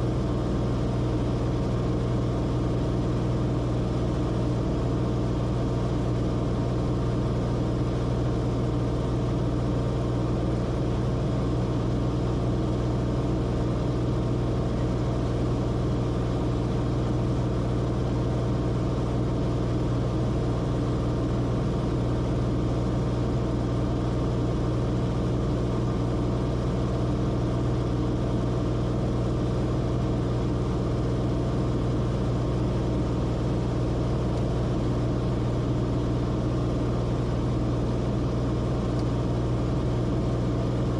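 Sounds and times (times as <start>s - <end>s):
propeller aircraft engine drone: 0.0s - 40.9s.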